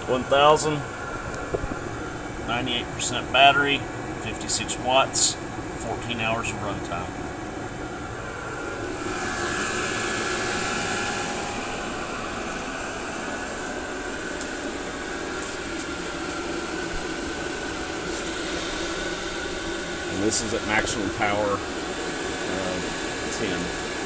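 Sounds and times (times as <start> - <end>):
heater blower whooshing: 0.0 - 24.0.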